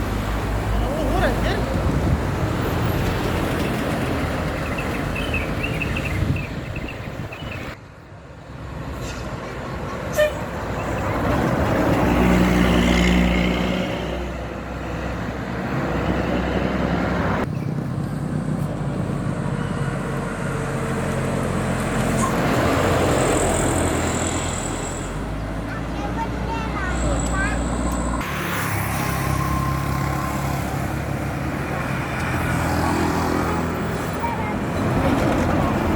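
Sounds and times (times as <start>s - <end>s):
bus diesel engines driving past: 0.0s - 35.9s
road traffic noise: 0.0s - 35.9s.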